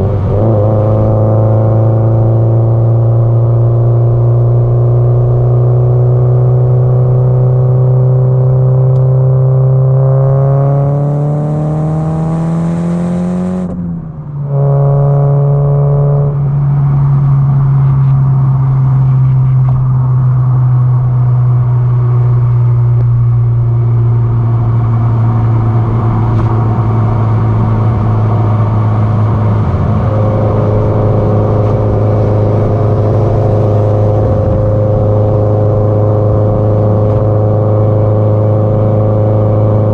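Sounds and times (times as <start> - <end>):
car exhaust at steady speed: 0.0 - 39.9.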